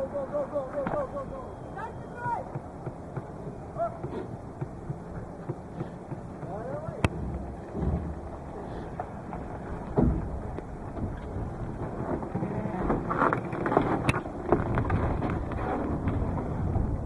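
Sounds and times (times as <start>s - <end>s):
low rumbling noise: 0.0s - 17.0s
wind buffeting microphone: 0.0s - 17.0s.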